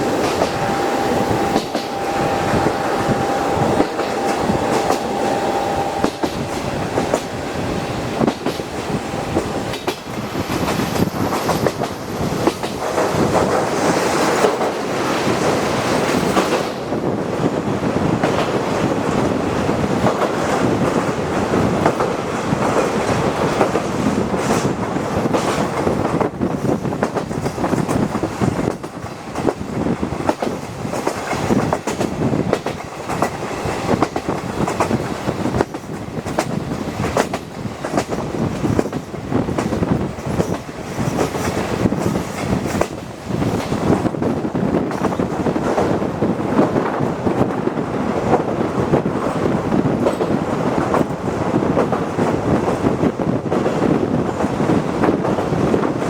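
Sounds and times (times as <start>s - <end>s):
train rolling rumble: 0.0s - 56.0s.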